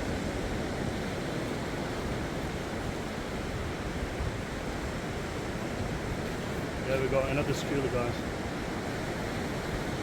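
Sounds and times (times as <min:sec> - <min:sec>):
surf washing on shore: 0:00.0 - 0:10.0.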